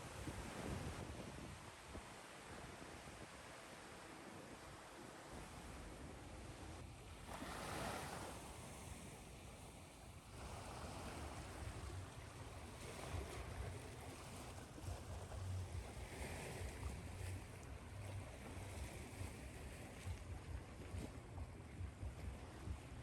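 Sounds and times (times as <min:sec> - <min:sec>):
ocean waves washing ashore: 0:00.0 - 0:23.0.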